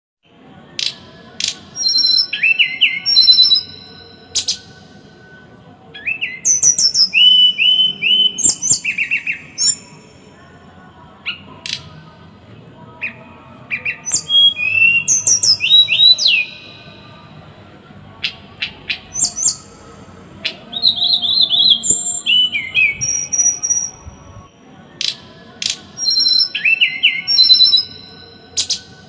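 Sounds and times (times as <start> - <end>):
songbird singing harsh notes: 0.8 - 5.0, 5.9 - 10.4, 12.9 - 17.2, 18.2 - 29.0.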